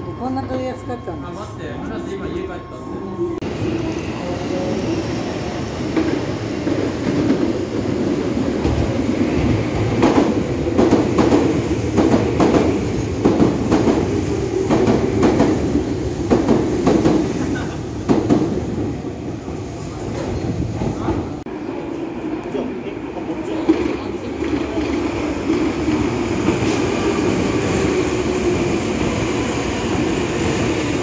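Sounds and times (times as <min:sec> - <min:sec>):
electric train rumbling past: 0:00.0 - 0:31.0.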